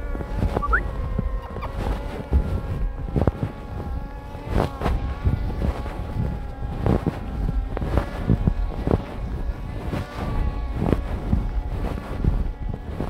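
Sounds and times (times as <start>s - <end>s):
drone propellers buzzing: 0.0s - 13.0s
wind rumble on microphone: 0.0s - 13.0s.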